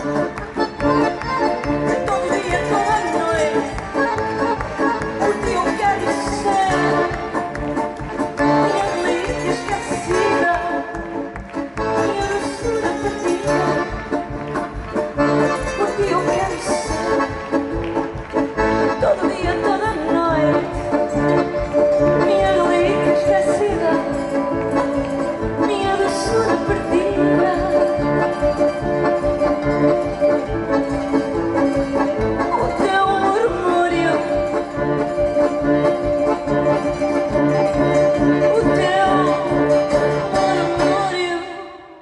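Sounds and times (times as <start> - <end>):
acoustic band playing: 0.0 - 41.8.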